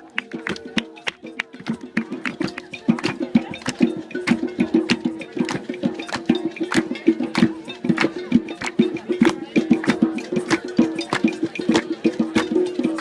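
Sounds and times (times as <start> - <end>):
sharp tapping percussion: 0.0 - 13.0.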